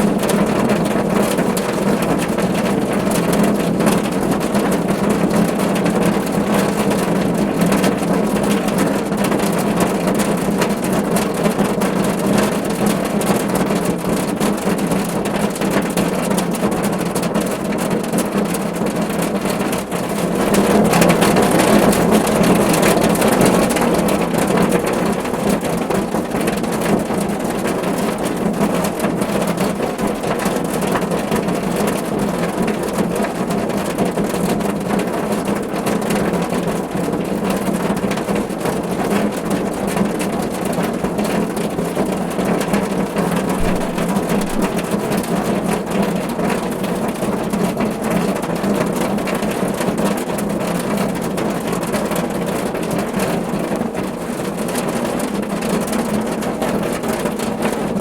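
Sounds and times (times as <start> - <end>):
rain drumming on car roof: 0.0 - 58.0.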